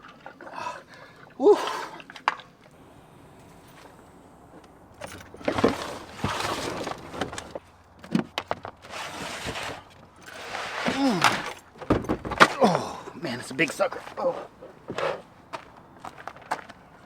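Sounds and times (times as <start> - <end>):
gear rustling and clattering: 0.0 - 16.8.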